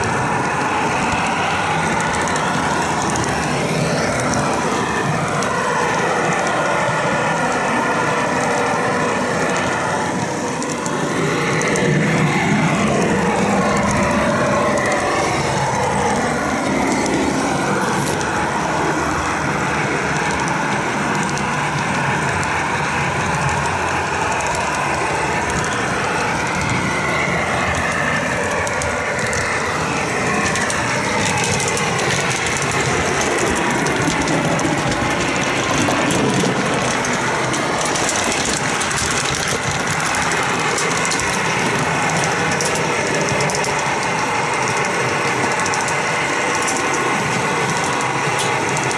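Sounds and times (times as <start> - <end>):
model train wheels rolling on rails: 0.0 - 48.9
running gear droning: 0.0 - 48.9
whine sliding in pitch: 0.0 - 48.9.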